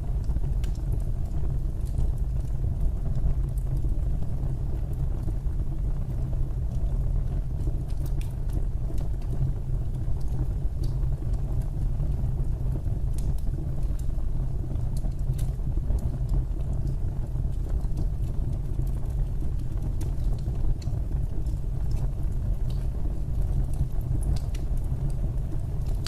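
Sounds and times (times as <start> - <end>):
fire crackles and pops: 0.0 - 26.0
fire roaring in a fireplace: 0.0 - 26.0.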